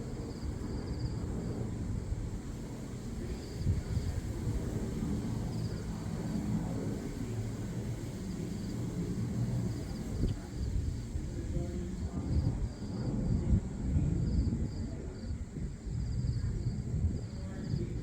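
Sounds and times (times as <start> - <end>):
low uneven rumble: 0.0 - 18.0.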